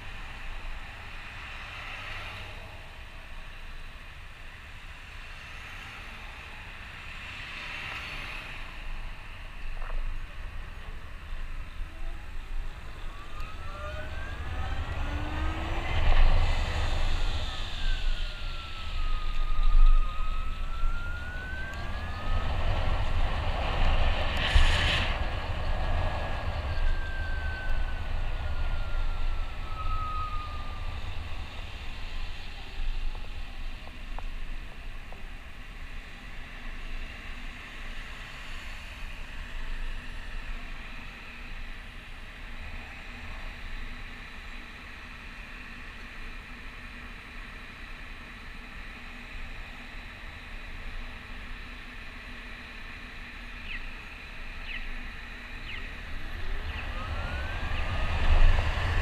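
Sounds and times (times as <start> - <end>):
low wind rumble on microphone: 0.0 - 59.0.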